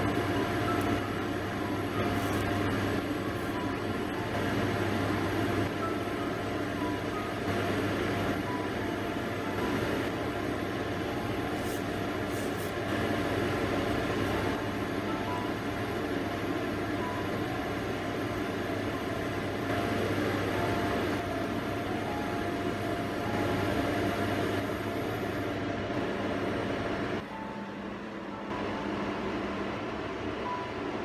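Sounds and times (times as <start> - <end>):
gas burner flame noise: 0.0 - 27.3.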